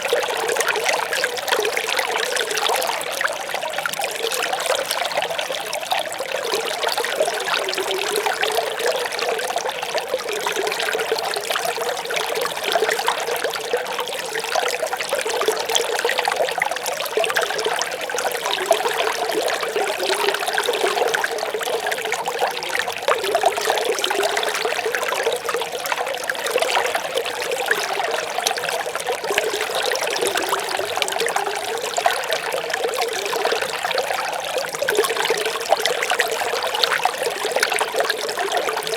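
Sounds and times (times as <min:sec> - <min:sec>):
small stream babbling: 0:00.0 - 0:38.9.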